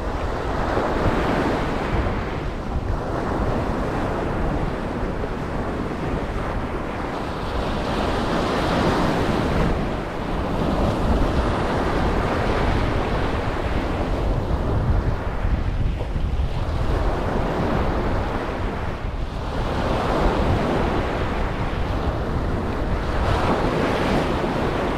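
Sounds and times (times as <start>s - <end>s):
low rumbling wind on microphone: 0.0s - 24.9s
ocean surf breaking: 0.0s - 24.9s.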